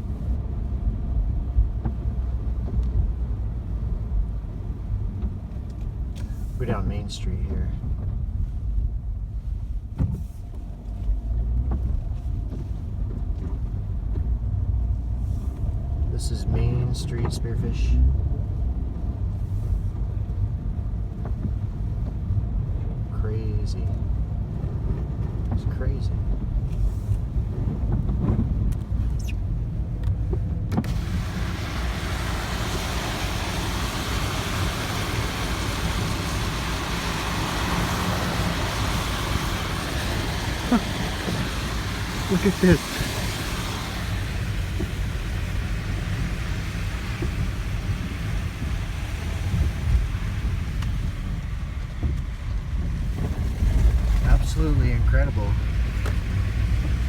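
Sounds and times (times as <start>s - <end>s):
car driving on snow: 0.0s - 57.0s
hiss of wind and road noise: 0.0s - 57.0s.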